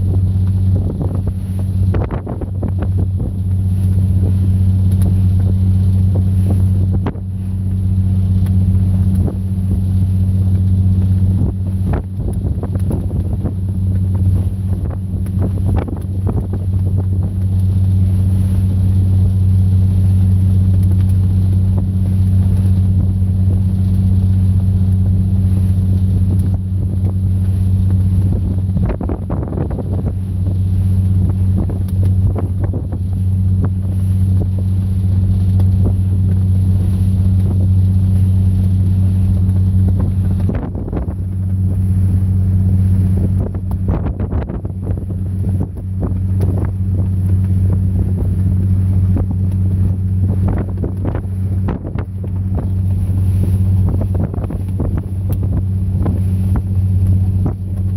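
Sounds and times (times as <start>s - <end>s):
boat engine droning: 0.0s - 57.9s
wind on microphone: 0.0s - 57.9s.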